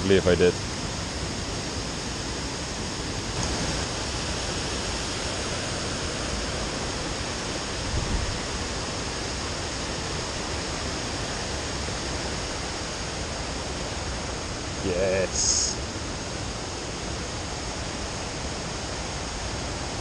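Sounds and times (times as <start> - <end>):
river water rushing over stones: 3.3 - 20.0.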